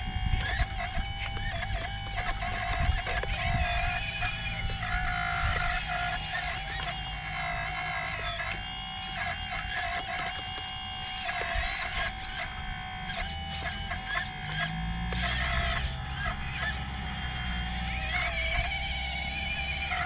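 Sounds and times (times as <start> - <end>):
high chirps: 0.0 - 20.0
small electric motor whining: 0.0 - 20.0.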